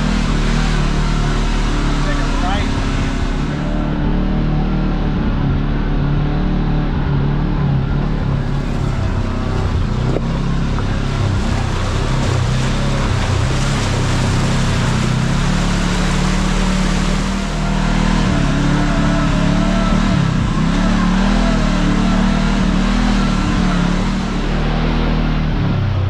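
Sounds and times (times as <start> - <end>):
off-road vehicle engine revving: 0.0 - 26.0
wind and tyre noise: 0.0 - 26.0.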